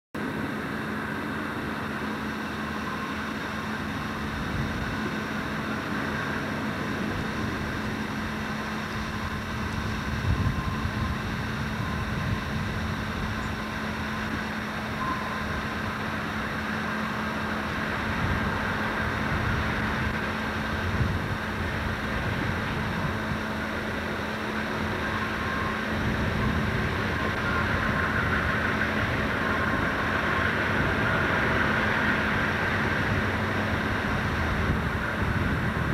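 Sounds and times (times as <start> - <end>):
diesel locomotive engine drone: 0.2 - 35.9.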